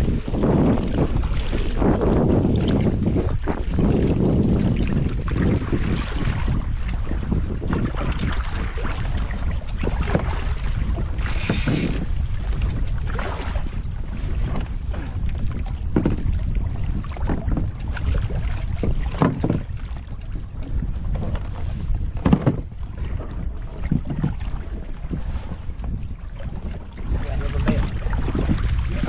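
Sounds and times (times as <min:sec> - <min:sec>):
water splashing: 0:00.0 - 0:20.4, 0:22.5 - 0:29.0
wind rumbling on microphone: 0:00.0 - 0:29.0.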